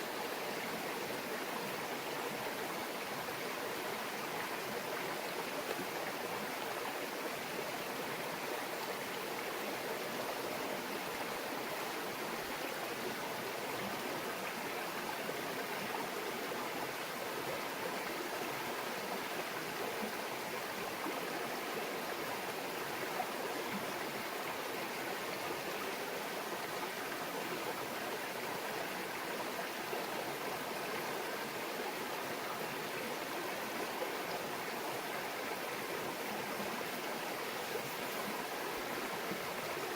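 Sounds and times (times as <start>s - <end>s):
shallow brook murmuring: 0.0s - 39.9s.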